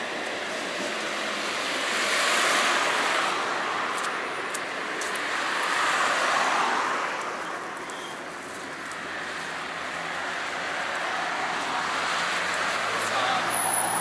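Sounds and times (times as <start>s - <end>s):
vehicles passing: 0.0s - 14.0s.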